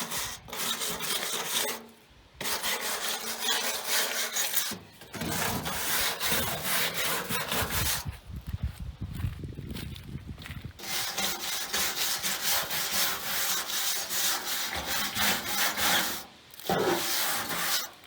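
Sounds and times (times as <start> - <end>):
wire brush scraping paint: 0.0 - 8.1, 10.8 - 18.0.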